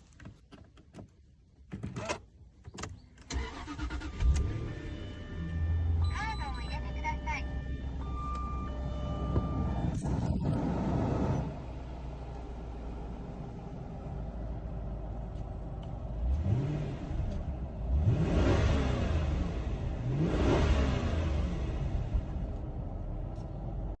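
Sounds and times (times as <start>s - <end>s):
car engine idling and revving: 1.8s - 24.0s.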